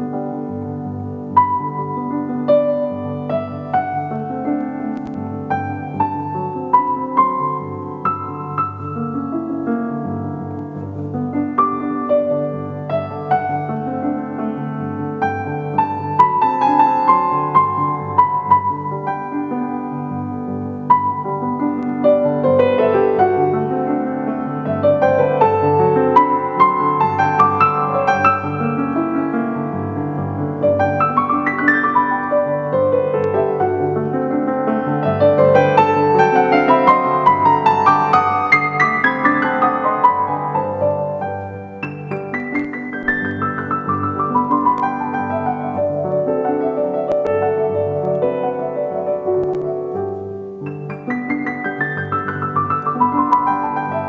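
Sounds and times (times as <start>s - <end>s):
slow piano music: 0.0s - 54.0s.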